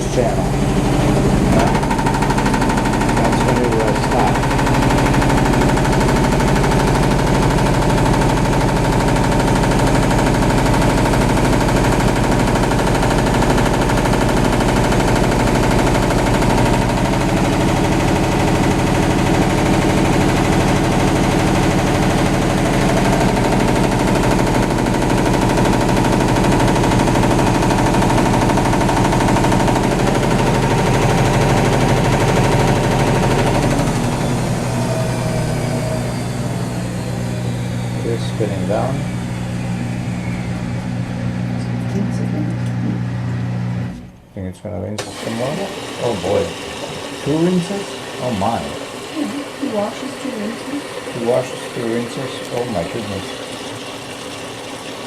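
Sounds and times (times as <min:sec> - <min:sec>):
rattle of vibration: 0:00.0 - 0:44.3
washing machine spinning: 0:00.0 - 0:44.3, 0:44.9 - 0:55.0.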